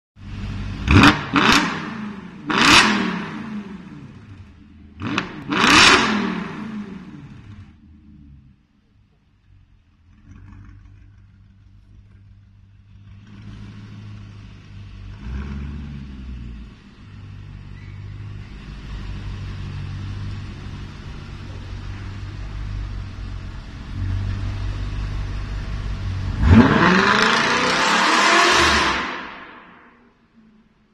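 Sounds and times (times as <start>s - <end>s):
car engine idling and revving: 0.2s - 30.9s.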